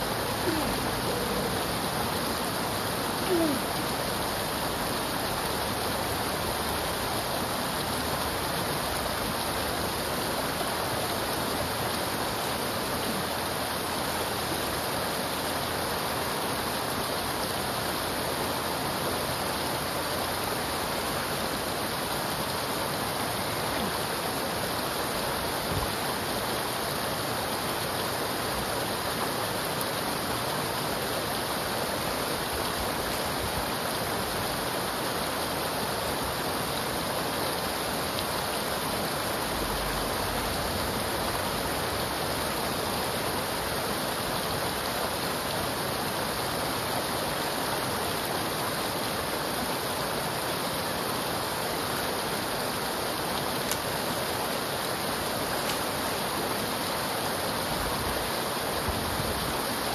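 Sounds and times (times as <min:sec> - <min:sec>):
floodwater rushing down creek: 0:00.0 - 0:59.9.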